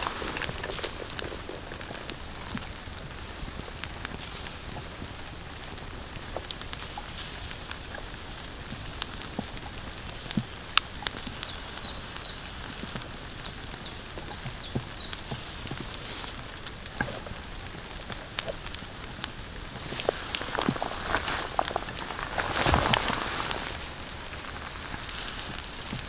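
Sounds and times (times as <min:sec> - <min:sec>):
drops tapping on tarp: 0:00.0 - 0:26.0
steady rain: 0:00.0 - 0:26.0.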